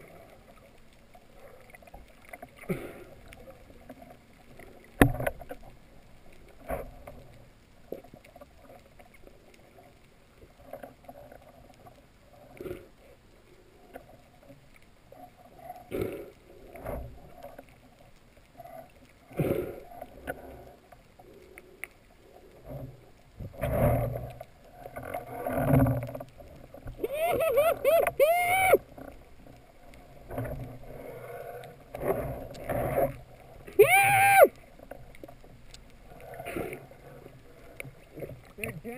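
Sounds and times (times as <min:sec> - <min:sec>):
low underwater hiss: 0:00.0 - 0:38.9.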